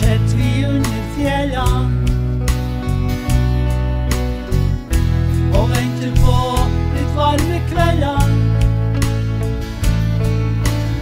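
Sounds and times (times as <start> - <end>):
bass and chords with beat: 0.0 - 11.0.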